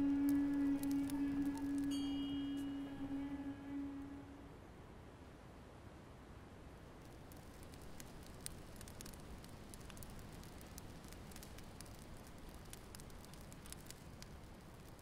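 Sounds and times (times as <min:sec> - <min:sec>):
wood fire crackling: 0:00.0 - 0:04.0, 0:06.5 - 0:15.0.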